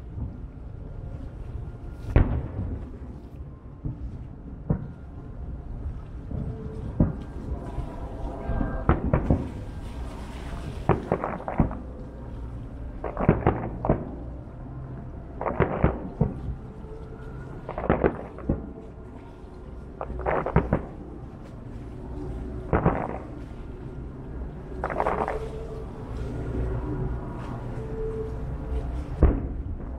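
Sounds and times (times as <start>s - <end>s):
low rumble: 0.0s - 29.9s.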